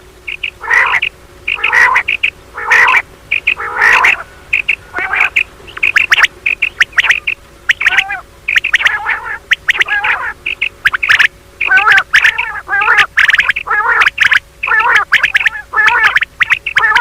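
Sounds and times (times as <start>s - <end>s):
quail high chirps: 0.2s - 17.0s
quail rasping call: 0.2s - 17.0s.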